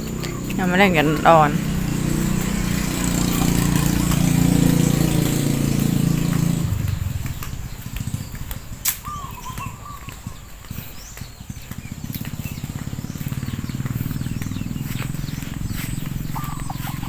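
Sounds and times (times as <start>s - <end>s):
engine running: 0.0s - 17.0s
light footsteps: 0.0s - 17.0s.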